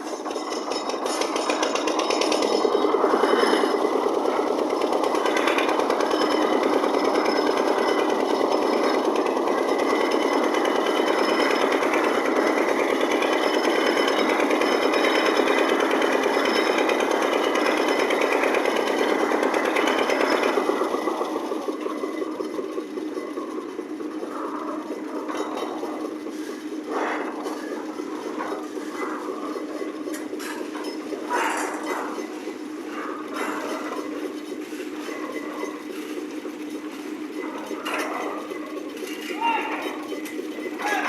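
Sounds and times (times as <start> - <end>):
concrete mixer rattling: 0.0 - 41.0.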